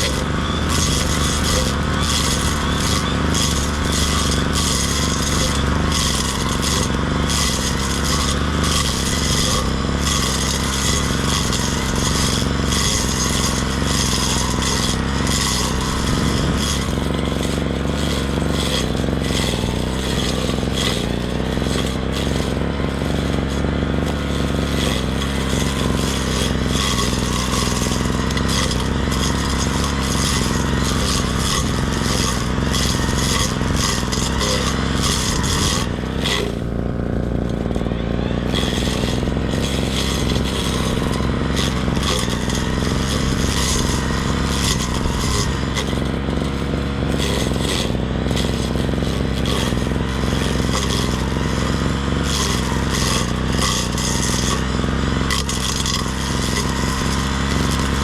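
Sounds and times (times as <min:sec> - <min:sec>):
brush cutter engine hum: 0:00.0 - 0:58.0
cutting head scraping through grass: 0:00.0 - 0:58.0.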